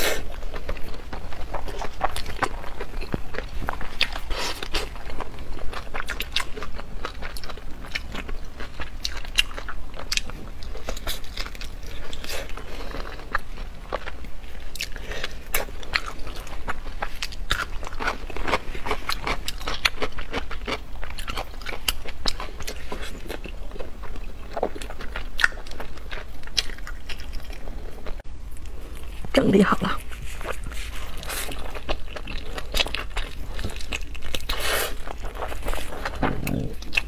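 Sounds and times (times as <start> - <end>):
person chewing crispy food: 0.0 - 29.4, 30.0 - 37.0.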